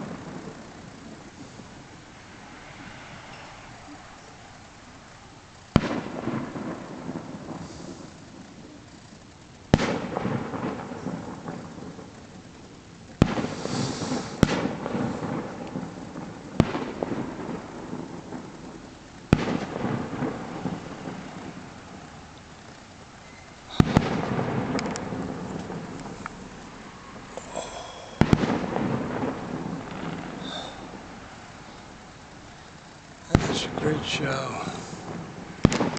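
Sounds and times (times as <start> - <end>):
distant fireworks bursting: 0.0 - 35.9
rolling echo rumble: 0.0 - 35.9.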